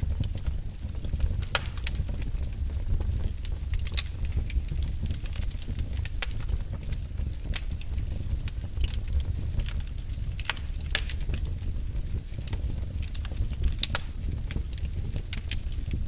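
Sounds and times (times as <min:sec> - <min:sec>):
low rumble of burning fire: 0:00.0 - 0:16.0
wood fire crackling and popping: 0:00.0 - 0:16.0.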